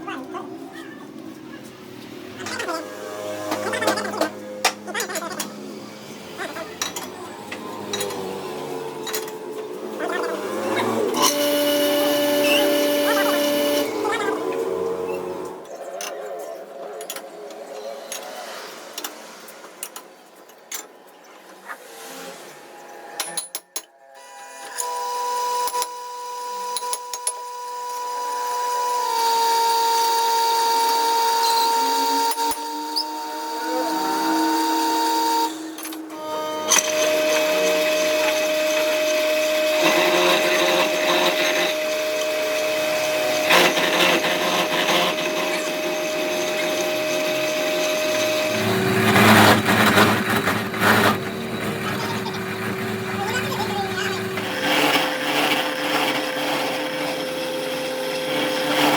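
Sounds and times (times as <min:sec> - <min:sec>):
rough machining noise: 0:00.0 - 0:58.9
power tool motor whine: 0:02.1 - 0:15.6, 0:24.2 - 0:58.9.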